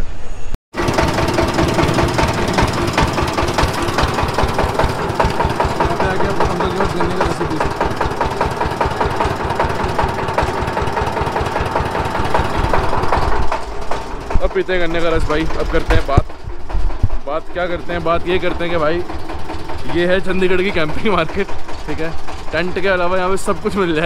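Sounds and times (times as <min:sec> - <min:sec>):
mechanical hum: 0:00.0 - 0:24.0
rapid even knocking: 0:00.8 - 0:24.0
rollers crushing cane stalks: 0:00.8 - 0:24.0.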